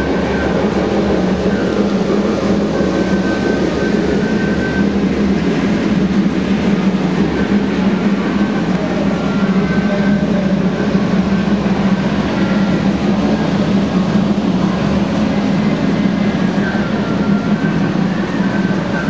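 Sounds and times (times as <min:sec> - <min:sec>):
model train wheels rumbling: 0:00.0 - 0:19.0
thin whines: 0:00.0 - 0:19.0.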